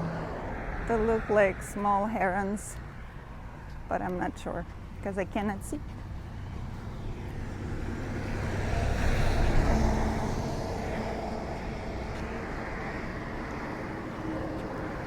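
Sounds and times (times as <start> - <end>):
car passing: 0.0 - 3.8, 5.6 - 15.0.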